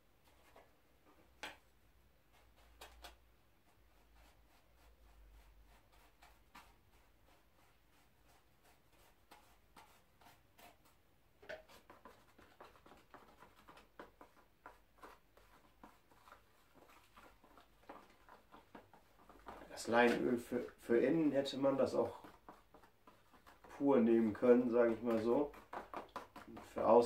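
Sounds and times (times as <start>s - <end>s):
stick scraping paper: 2.3s - 27.0s.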